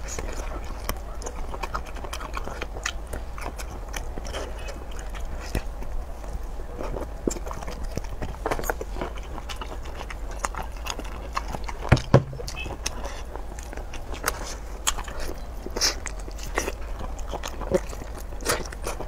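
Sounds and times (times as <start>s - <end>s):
biting and chewing shellfish: 0.0s - 19.0s
small wet clicks and crackles: 0.0s - 19.0s.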